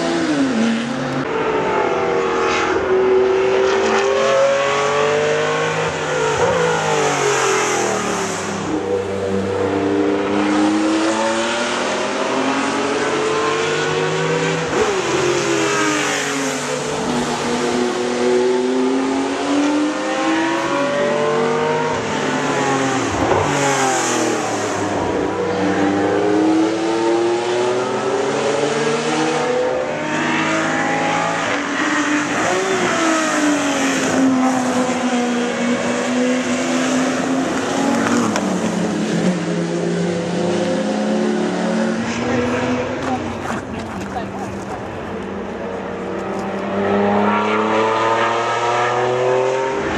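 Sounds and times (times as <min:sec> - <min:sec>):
racing car engines revving: 0:00.0 - 0:49.9.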